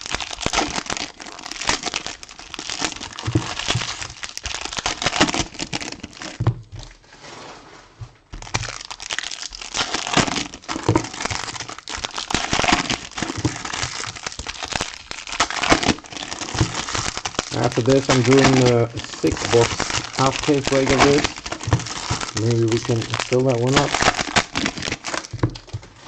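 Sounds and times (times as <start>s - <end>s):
plastic wrapping crinkling and tearing: 0.0s - 7.4s, 8.2s - 26.0s.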